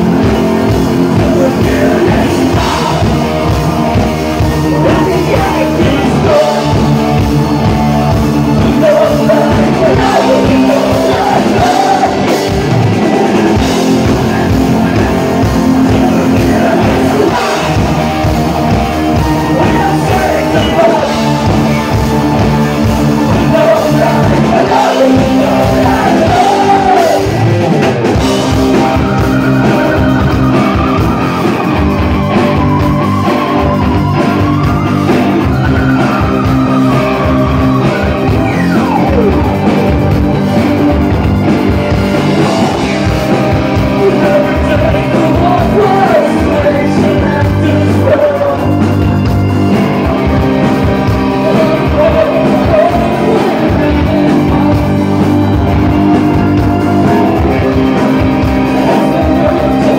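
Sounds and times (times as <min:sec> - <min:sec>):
person singing: 0:00.0 - 0:39.8, 0:42.4 - 0:49.2, 0:50.3 - 0:59.9
bass guitar: 0:00.0 - 0:59.9
drums: 0:00.0 - 0:59.9
electric guitar: 0:00.0 - 0:59.9
keyboard: 0:00.0 - 0:59.9.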